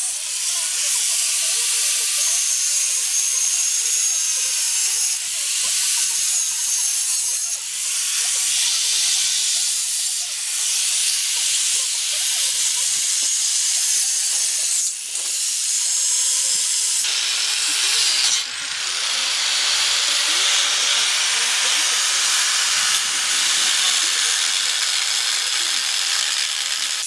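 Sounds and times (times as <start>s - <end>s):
loud steady hissing: 0.0s - 27.0s.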